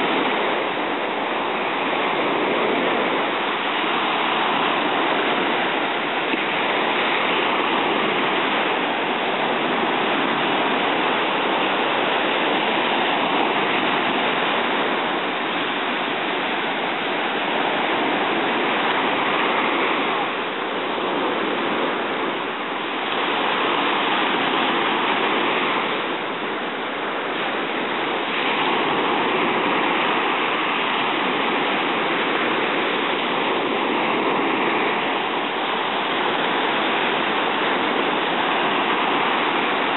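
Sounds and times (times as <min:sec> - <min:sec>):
waves breaking on sand: 0:00.0 - 0:39.9.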